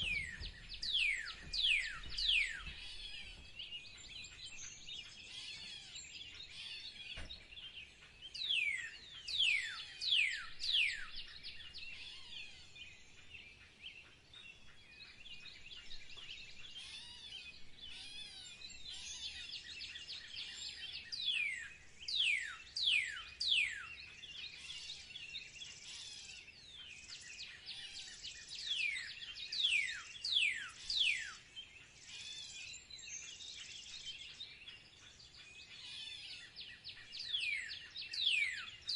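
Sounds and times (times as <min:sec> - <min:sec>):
small birds twittering: 0:00.0 - 0:38.9.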